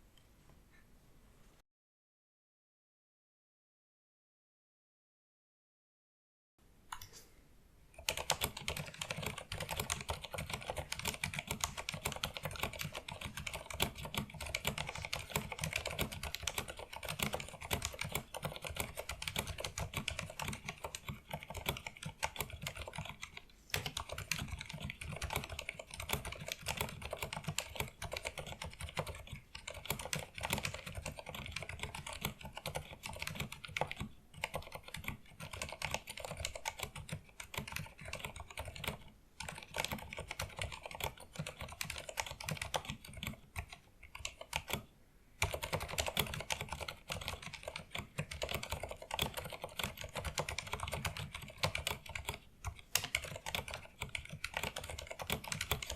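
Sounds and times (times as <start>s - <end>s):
mechanical keyboard typing: 8.0s - 55.9s.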